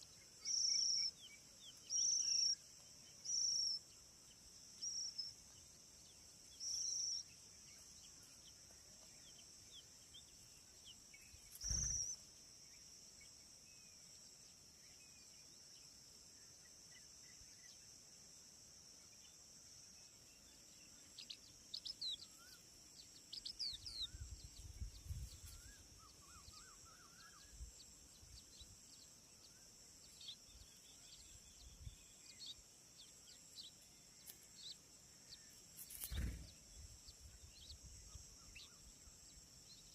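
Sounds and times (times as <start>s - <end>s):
bird chirps: 0.0s - 15.9s, 19.0s - 39.9s.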